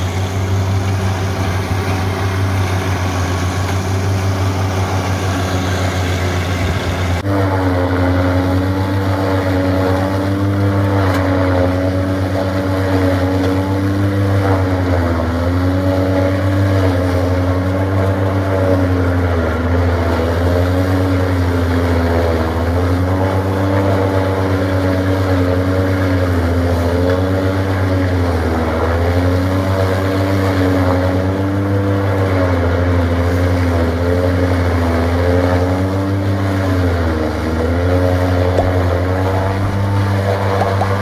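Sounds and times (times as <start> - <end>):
forage chopper shredding: 0.0 - 41.0
tractor engine drone: 0.0 - 41.0.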